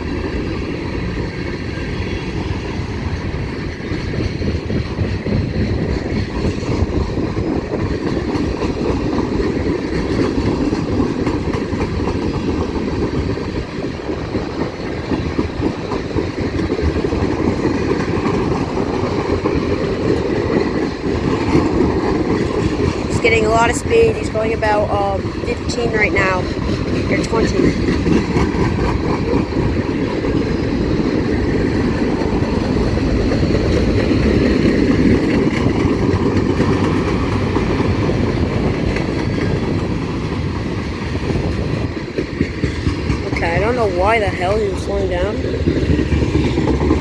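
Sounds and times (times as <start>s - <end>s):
freight train wheels on rails: 0.0s - 47.0s.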